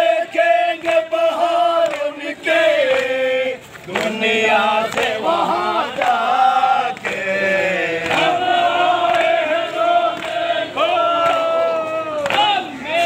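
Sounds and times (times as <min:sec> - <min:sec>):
men chanting a mourning lament: 0:00.0 - 0:13.0.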